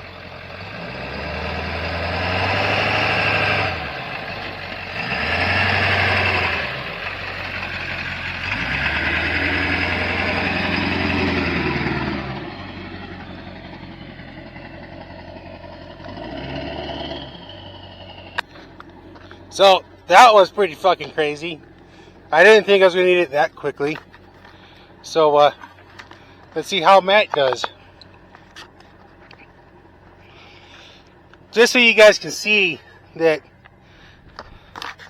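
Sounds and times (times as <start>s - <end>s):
diesel truck engine revving under load: 0.0s - 35.0s.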